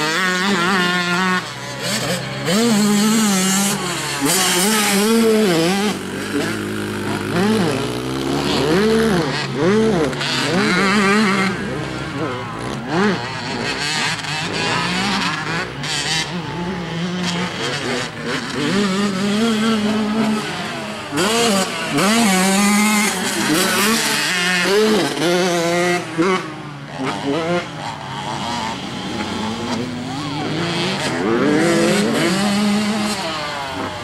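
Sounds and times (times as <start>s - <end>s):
dirt bike engines racing: 0.0s - 34.0s.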